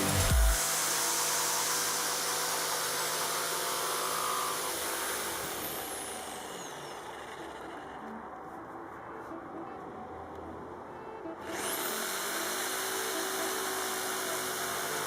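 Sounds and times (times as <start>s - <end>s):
power tool motor whine: 0.0s - 8.6s, 11.4s - 15.0s.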